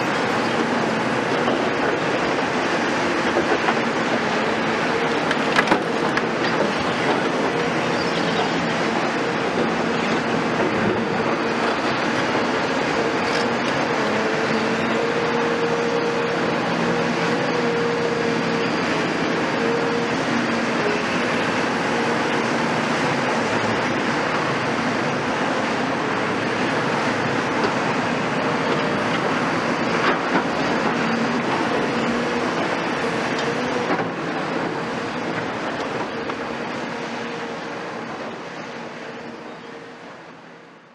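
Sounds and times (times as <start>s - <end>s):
excavator diesel engines and hydraulics: 0.0s - 40.9s.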